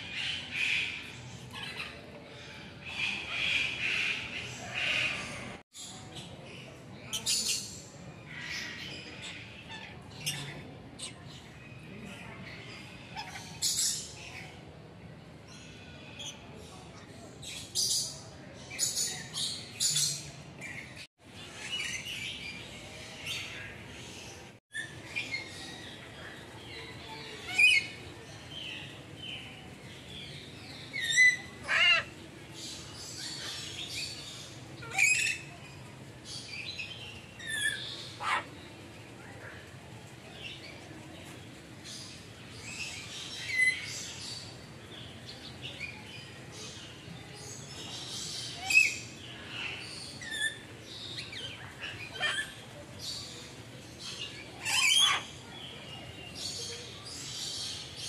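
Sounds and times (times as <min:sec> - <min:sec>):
birds chirping and squawking: 0:00.1 - 0:11.8, 0:12.6 - 0:14.4, 0:17.5 - 0:39.5, 0:41.6 - 0:58.0.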